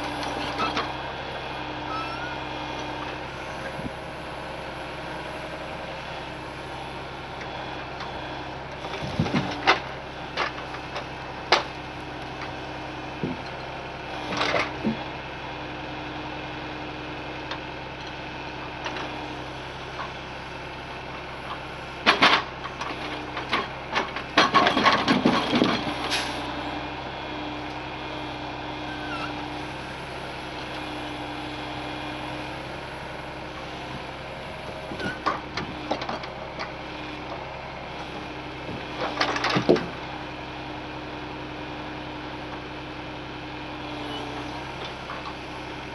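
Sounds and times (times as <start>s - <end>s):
heavy truck engine running: 0.0s - 45.9s.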